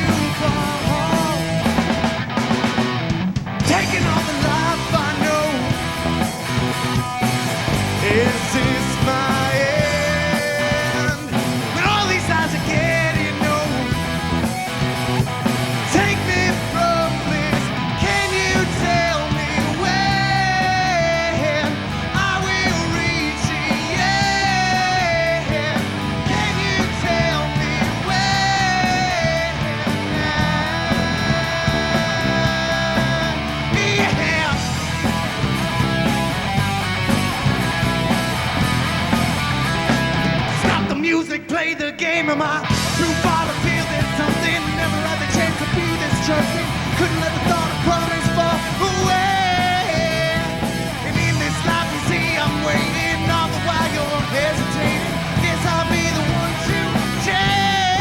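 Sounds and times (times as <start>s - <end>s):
drums keeping a steady beat: 0.0s - 41.4s, 42.6s - 58.0s
bass guitar: 0.0s - 58.0s
electric guitars: 0.0s - 58.0s
melodic lead guitar line: 0.0s - 58.0s.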